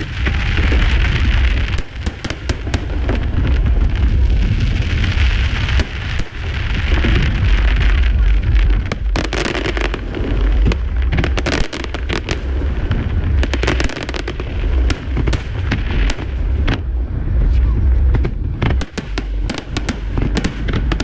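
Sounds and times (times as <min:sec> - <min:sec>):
fireworks booming: 0:00.0 - 0:21.0
fireworks cracking and crackling: 0:00.0 - 0:21.0.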